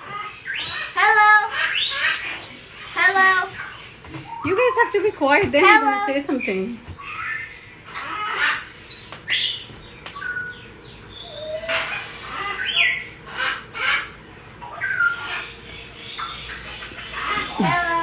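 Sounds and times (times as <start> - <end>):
parrots chirping and squawking: 0.0 - 18.0.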